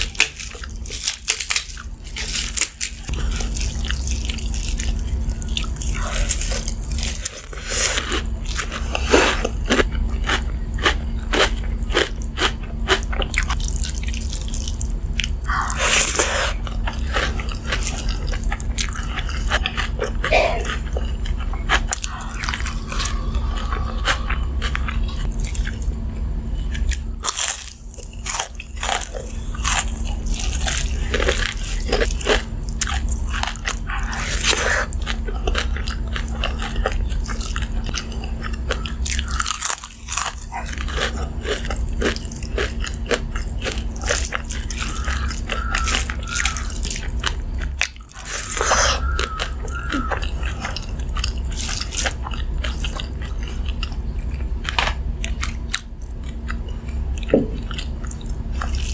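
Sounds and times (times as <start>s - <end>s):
crunchy chewing: 0.0s - 58.9s
steady low hum: 0.0s - 58.9s.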